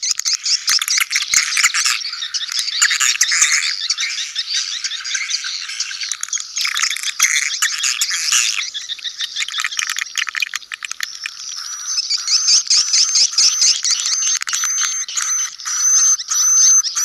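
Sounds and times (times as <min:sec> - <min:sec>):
birds chirping and clicking: 0:00.0 - 0:17.0.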